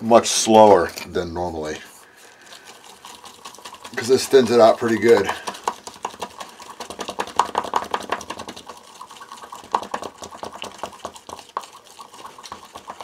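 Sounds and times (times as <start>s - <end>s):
stir stick scraping plastic cup: 0.0s - 13.0s.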